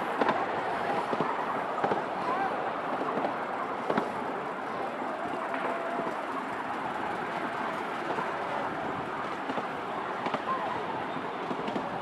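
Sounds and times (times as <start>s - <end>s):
small train rolling rumble: 0.0s - 12.0s.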